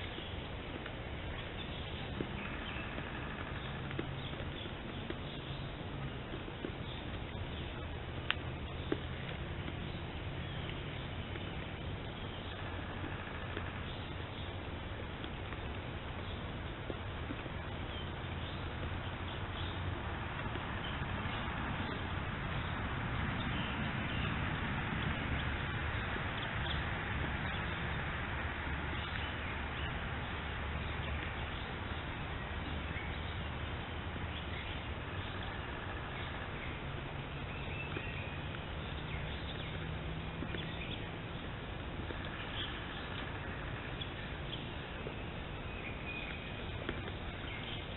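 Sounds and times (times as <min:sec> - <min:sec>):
steady microphone hiss: 0:00.0 - 0:47.9.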